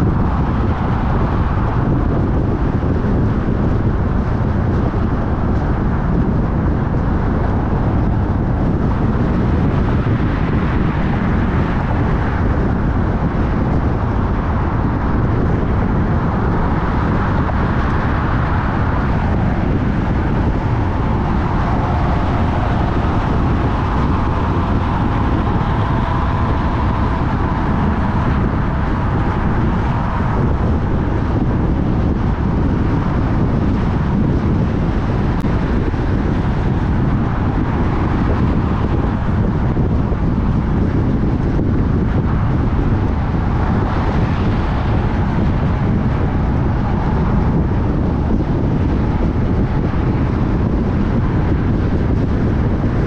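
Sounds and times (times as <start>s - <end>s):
car road and engine noise: 0.0s - 53.0s
wind on microphone: 0.0s - 53.0s.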